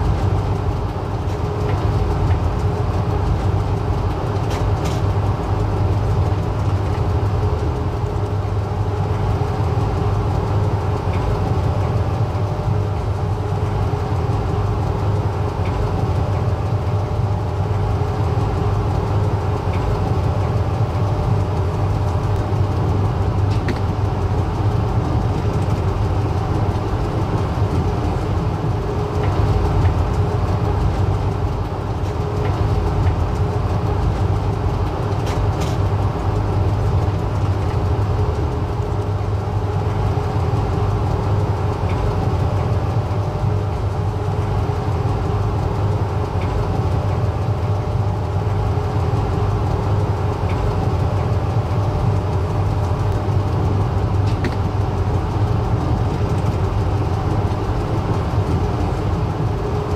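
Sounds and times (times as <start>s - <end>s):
faint clicks and rattles: 0.0s - 59.9s
passenger train rumbling: 0.0s - 59.9s.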